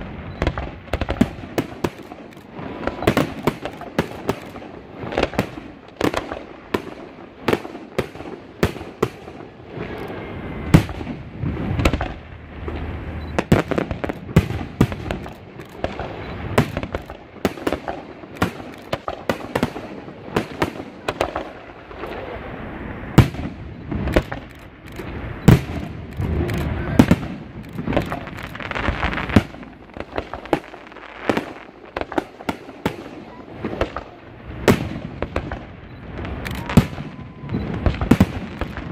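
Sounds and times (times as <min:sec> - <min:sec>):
fireworks shells bursting: 0:00.0 - 0:21.6, 0:23.1 - 0:33.0, 0:33.7 - 0:38.9
continuous rumble: 0:00.0 - 0:38.9.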